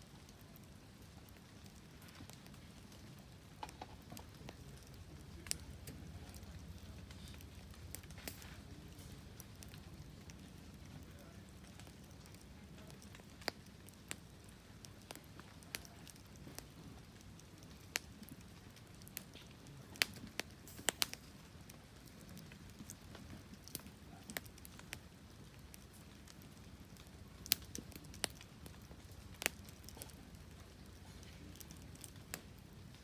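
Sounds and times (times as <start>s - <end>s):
wood fire crackling: 0.0s - 33.0s
faint low rumble: 0.2s - 33.0s.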